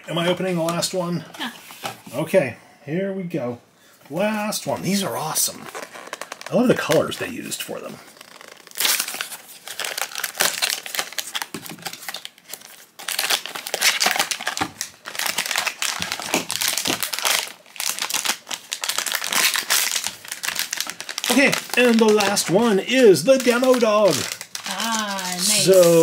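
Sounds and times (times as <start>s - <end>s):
foil bag crinkling: 4.9s - 26.0s.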